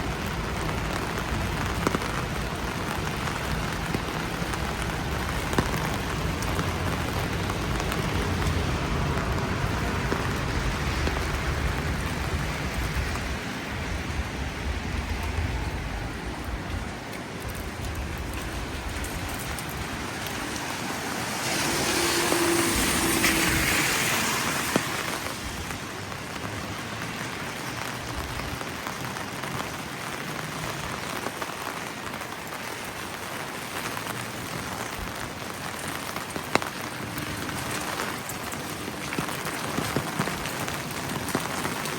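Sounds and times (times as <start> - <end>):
car tyres hissing on wet road: 0.0 - 41.9
steady rain: 0.0 - 41.9.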